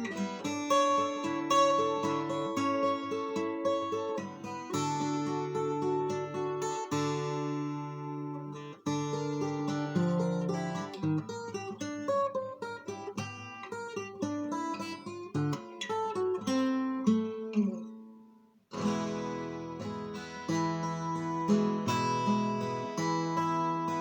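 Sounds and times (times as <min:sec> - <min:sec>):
acoustic guitar picking and chords: 0:00.0 - 0:24.0.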